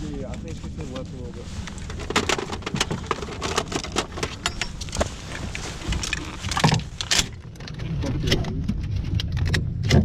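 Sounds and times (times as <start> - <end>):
low rumble of movement: 0.0 - 10.0
gear clicking and metallic rattling: 1.6 - 10.0.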